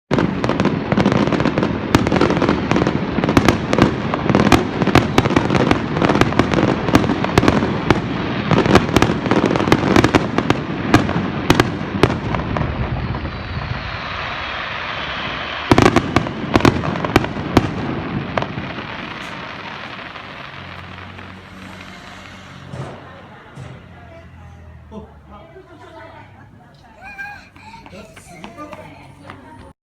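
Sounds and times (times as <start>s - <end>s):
fireworks booms and cracks: 0.1s - 24.9s
fireworks crackle: 0.1s - 29.8s.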